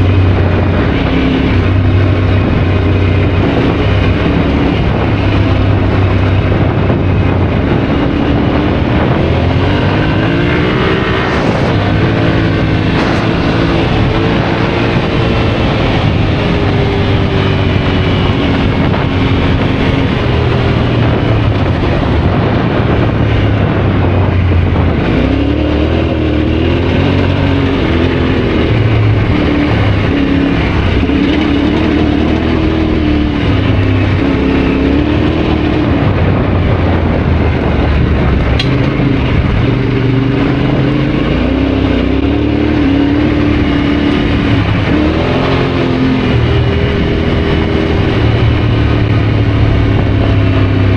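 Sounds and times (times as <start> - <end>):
motorcycle engine running: 0.0 - 50.9
wind and road noise: 0.0 - 50.9.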